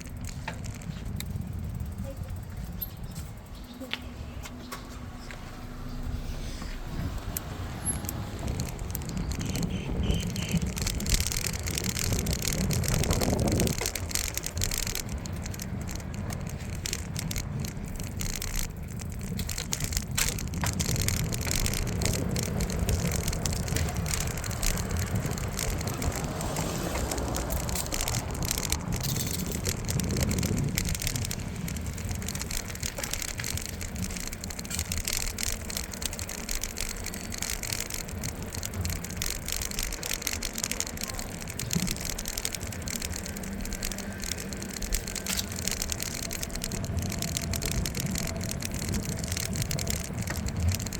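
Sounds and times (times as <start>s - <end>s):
bicycle rattling: 0.0s - 50.9s
wind rumbling on microphone: 0.0s - 50.9s.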